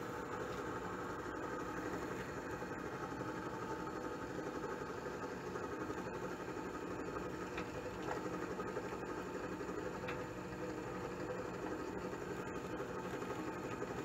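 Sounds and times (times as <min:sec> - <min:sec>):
drilling machine motor humming: 0:00.0 - 0:14.0.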